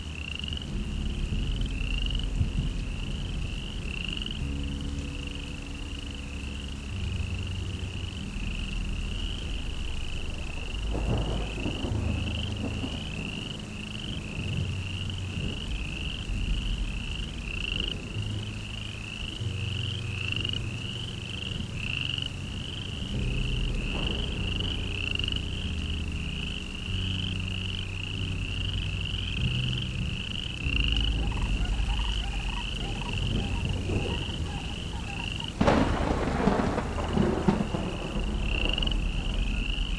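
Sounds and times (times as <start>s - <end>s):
frogs chirping: 0.0s - 39.9s
frogs croaking: 0.0s - 39.9s.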